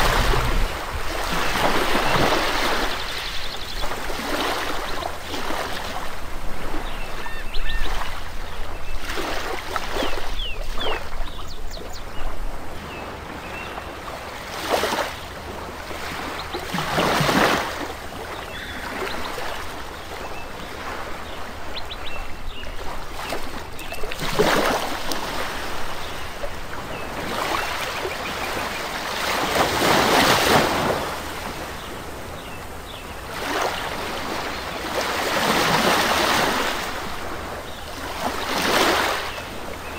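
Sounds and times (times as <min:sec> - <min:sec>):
rushing surf-like water: 0:00.0 - 0:39.9.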